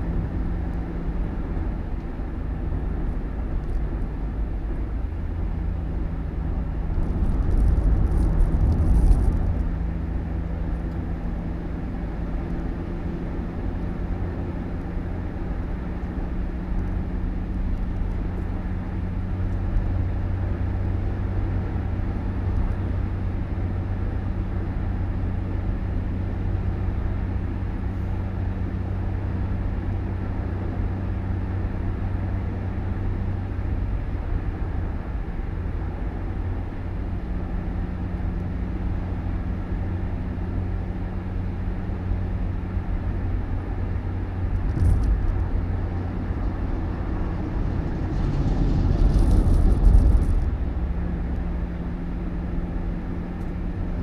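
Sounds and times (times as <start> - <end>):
road noise: 0.0 - 54.0
vehicle engine hum: 0.0 - 54.0.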